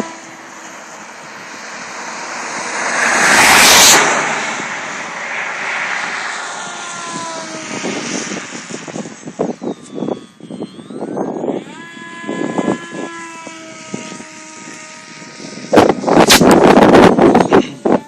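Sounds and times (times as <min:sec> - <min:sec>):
model airplane flying past: 0:00.0 - 0:18.0.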